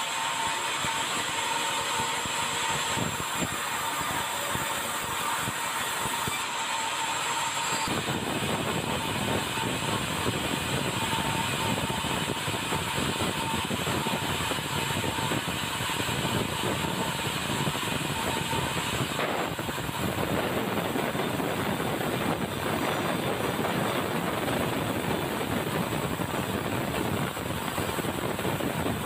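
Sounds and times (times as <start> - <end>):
vehicle noise with whine: 0.0 - 29.0.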